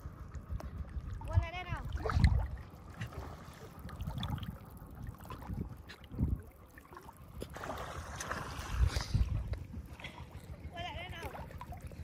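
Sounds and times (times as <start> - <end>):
water splashing and lapping: 0.0 - 12.0
wind rumble on microphone: 0.0 - 12.0.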